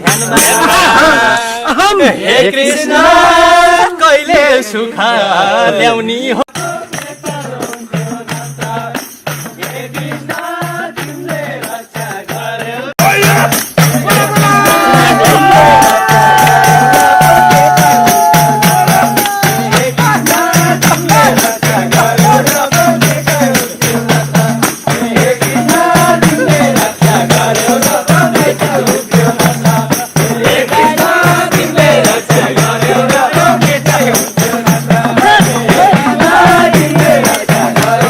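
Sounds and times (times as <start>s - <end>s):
jingling tambourine: 0.0s - 1.3s, 6.5s - 38.0s
fast percussion beat: 0.0s - 3.8s, 5.8s - 38.0s
voices singing: 0.0s - 38.0s.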